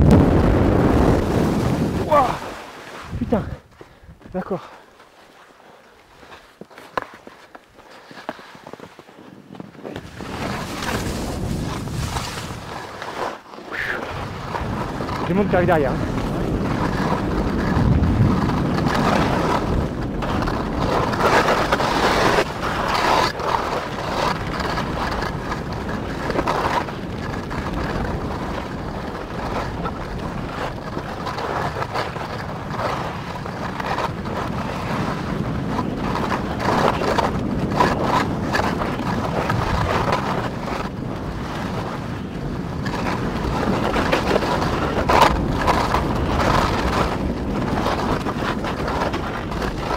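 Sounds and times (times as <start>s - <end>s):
wind rushing over microphone: 0.0s - 4.6s, 9.2s - 13.0s, 13.7s - 49.9s
skis scraping over snow: 0.0s - 49.9s.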